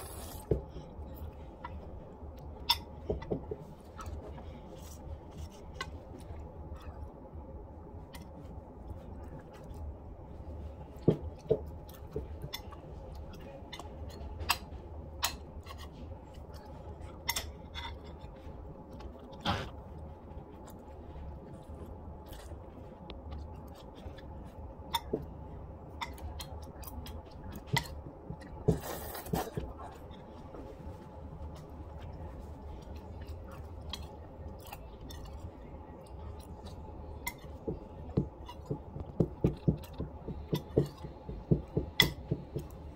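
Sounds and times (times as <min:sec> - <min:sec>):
low steady hum: 0:00.0 - 0:42.9
soft chewing: 0:00.0 - 0:42.9.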